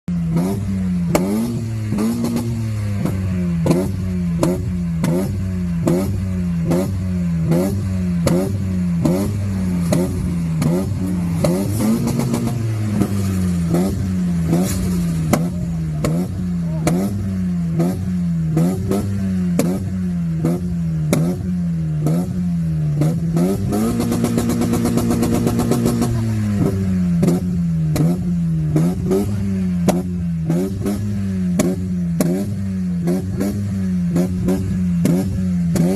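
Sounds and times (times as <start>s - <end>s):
car engine bouncing off rev limiter: 0.2s - 35.9s
exhaust pops and crackles: 0.3s - 35.9s.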